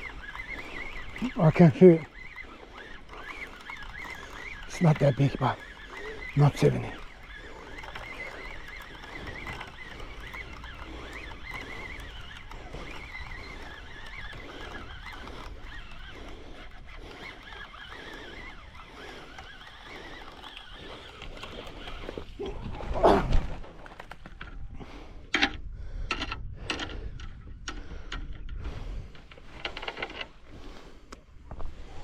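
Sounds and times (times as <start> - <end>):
fishing reel whining and ticking: 0.0 - 22.9, 23.7 - 32.0
wind buffeting microphone: 0.0 - 29.6.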